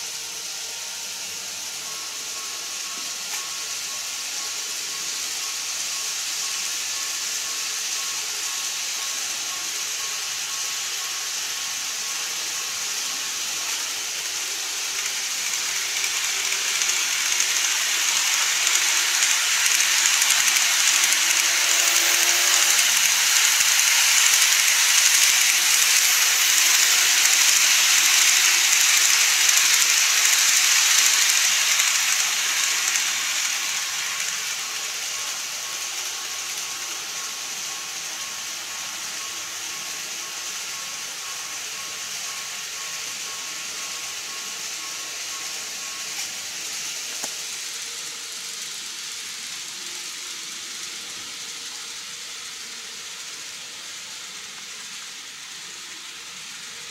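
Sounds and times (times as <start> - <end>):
model train running on track: 0.0 - 56.9.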